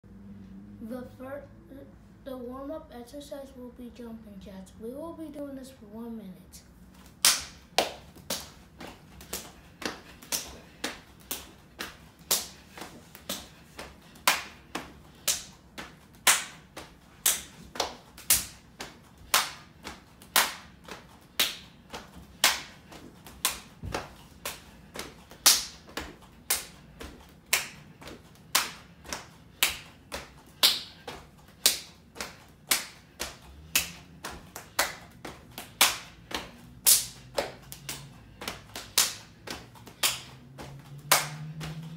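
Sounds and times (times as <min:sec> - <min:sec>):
hands clapping: 0:07.1 - 0:41.9.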